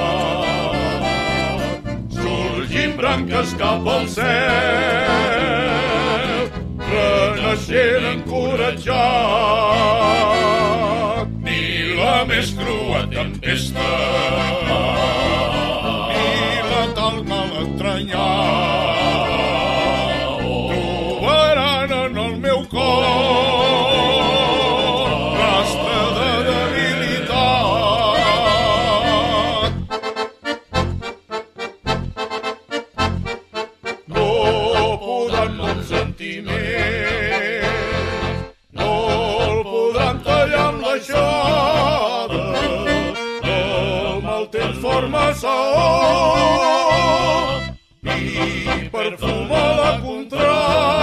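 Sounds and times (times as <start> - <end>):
person singing with vibrato: 0.0 - 29.9, 34.0 - 51.0
instrumental accompaniment: 0.0 - 51.0.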